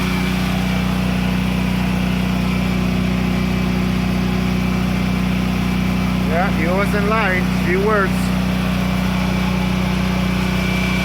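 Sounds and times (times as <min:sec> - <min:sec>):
electric appliance motor hum: 0:00.0 - 0:11.0.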